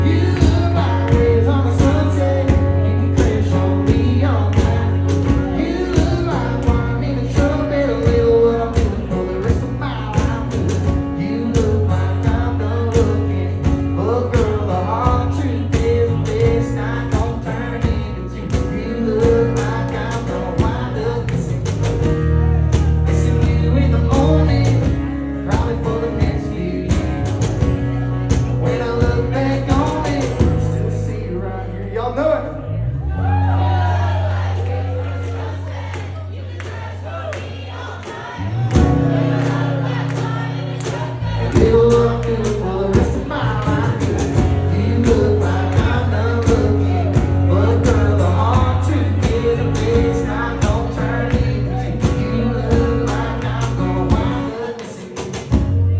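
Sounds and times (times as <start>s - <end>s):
man singing: 0.0s - 32.8s, 38.3s - 55.9s
bass line: 0.0s - 55.9s
guitar: 0.0s - 55.9s
drum beat: 0.3s - 30.6s, 36.6s - 55.8s.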